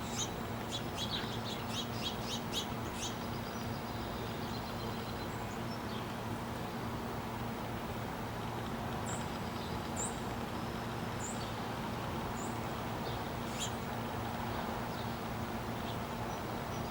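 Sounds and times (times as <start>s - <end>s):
outdoor background rumble: 0.0s - 16.9s.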